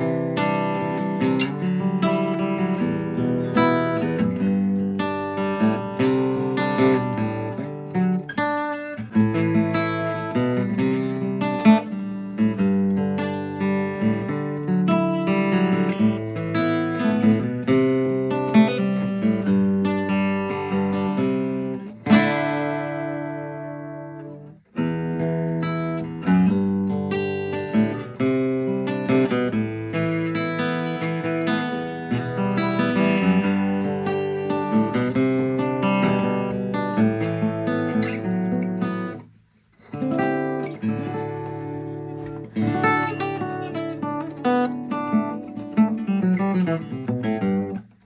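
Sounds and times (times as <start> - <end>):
acoustic guitar playing: 0.0 - 48.0.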